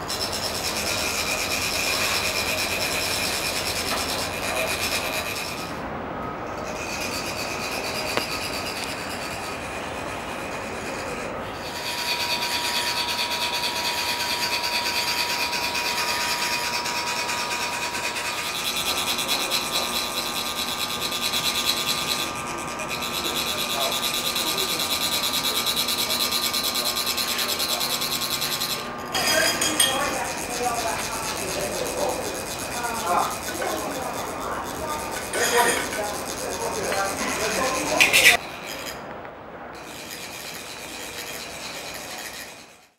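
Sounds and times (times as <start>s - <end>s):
metal rod rasping grooved tube: 0.0s - 5.8s, 6.6s - 39.0s, 39.8s - 42.9s.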